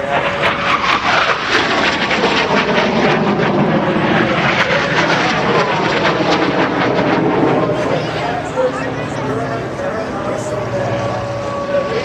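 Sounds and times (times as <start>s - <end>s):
propeller airplane engine: 0.0s - 12.0s.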